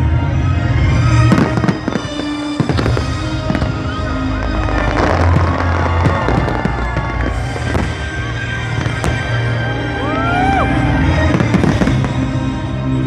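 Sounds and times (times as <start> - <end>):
fireworks bursting and crackling: 1.0 - 10.2, 10.8 - 13.0.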